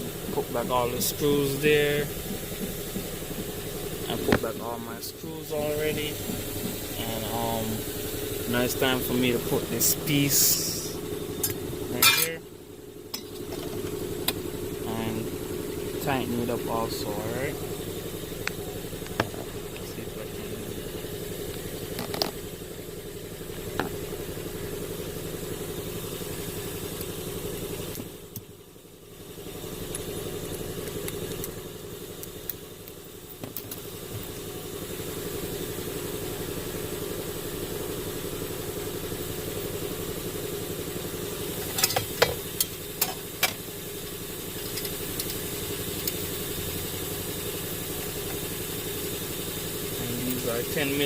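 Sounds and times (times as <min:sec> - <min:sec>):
car idling: 0:00.0 - 0:51.0.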